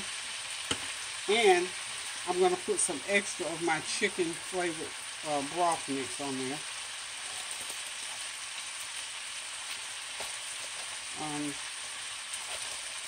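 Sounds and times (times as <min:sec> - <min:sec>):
cabbage sizzling in a skillet: 0:00.0 - 0:13.0.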